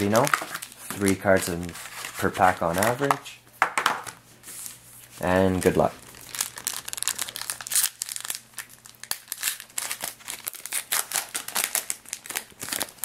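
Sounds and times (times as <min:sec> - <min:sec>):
wrapper crinkling: 0:00.0 - 0:03.1, 0:05.2 - 0:13.0.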